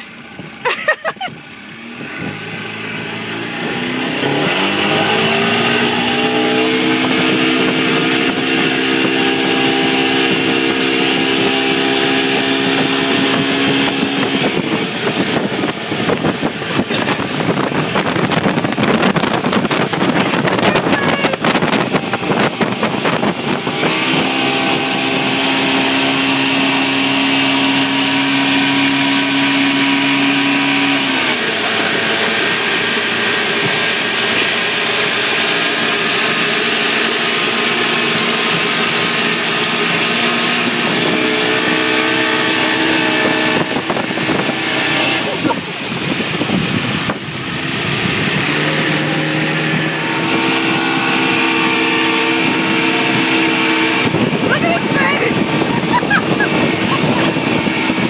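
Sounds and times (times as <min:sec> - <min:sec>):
outboard motor throttling up: 0:00.0 - 0:58.0
rush of wind and water: 0:00.0 - 0:58.0.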